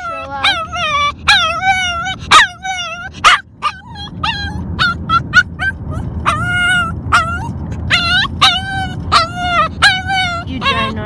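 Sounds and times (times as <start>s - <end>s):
car driving rumble: 0.0s - 11.0s
puppy yelping and whining: 0.0s - 11.0s.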